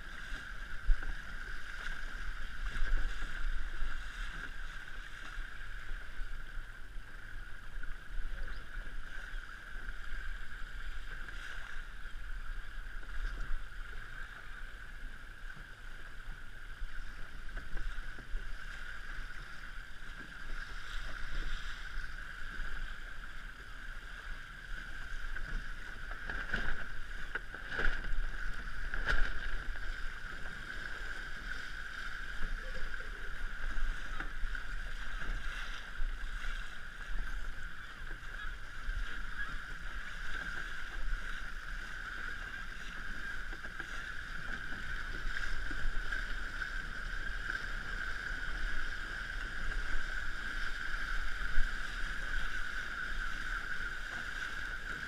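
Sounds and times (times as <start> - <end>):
water rushing past a hull: 0.0 - 55.0
waves slapping on hull: 0.0 - 55.0.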